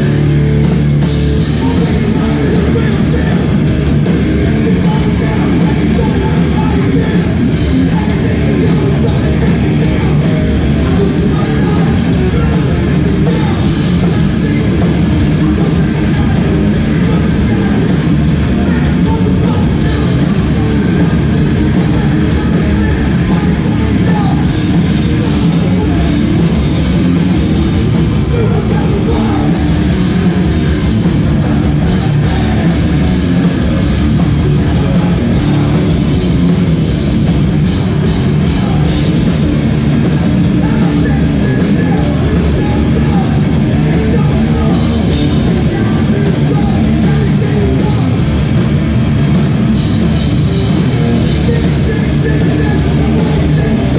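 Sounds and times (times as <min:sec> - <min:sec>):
bass guitar: 0:00.0 - 0:53.9
distorted electric guitars: 0:00.0 - 0:53.9
drum kit: 0:00.0 - 0:53.9.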